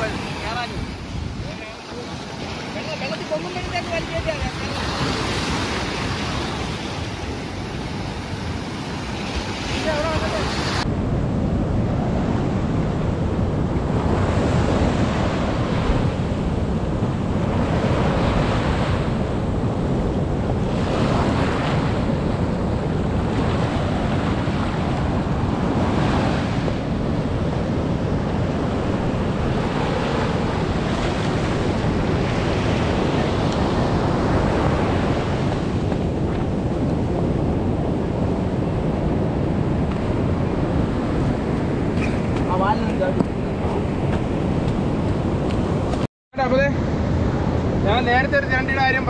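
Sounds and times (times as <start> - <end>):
sea waves washing ashore: 0.0 - 49.0
wind rumbling on microphone: 0.0 - 49.0.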